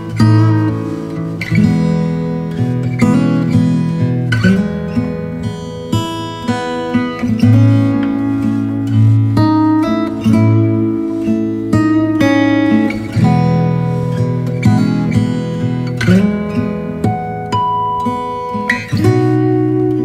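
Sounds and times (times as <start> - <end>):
strummed string instrument music: 0.0 - 20.0.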